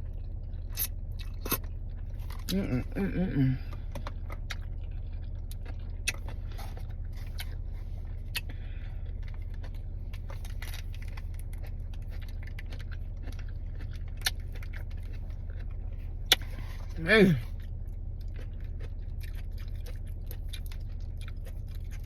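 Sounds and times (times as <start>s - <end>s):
eating crunches and clicks: 0.0s - 7.6s, 8.2s - 22.0s
car engine idling: 0.0s - 22.0s.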